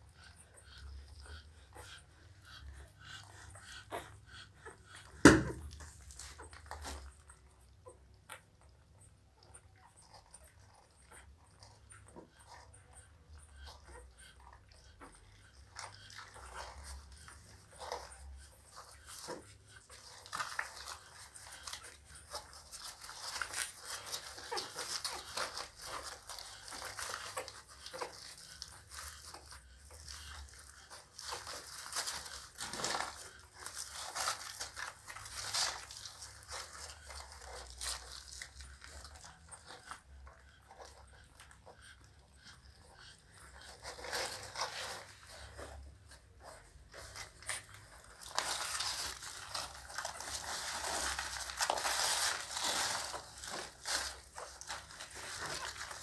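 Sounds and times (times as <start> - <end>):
puppies suckling: 0.0 - 56.0.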